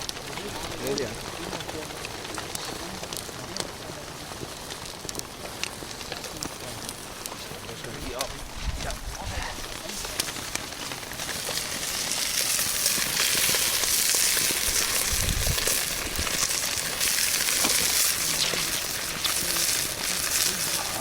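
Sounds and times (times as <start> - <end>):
cooking fat sizzling: 0.0 - 21.0.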